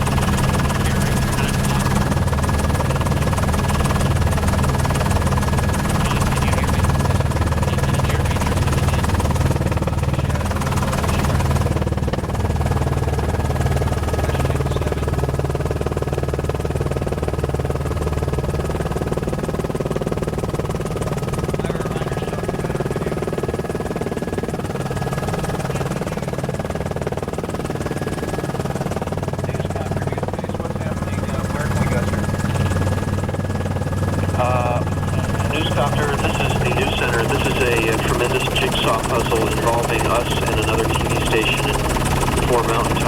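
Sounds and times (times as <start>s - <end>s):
helicopter rotor and turbine drone: 0.0s - 43.0s.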